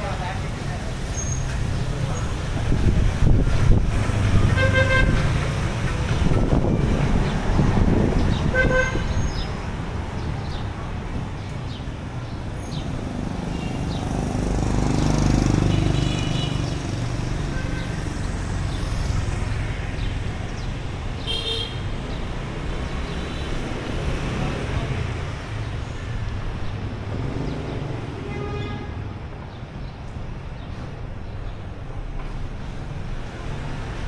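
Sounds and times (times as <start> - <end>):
vehicle rumble passing: 0.0 - 21.2, 22.0 - 34.0
traffic engines passing: 0.0 - 34.0.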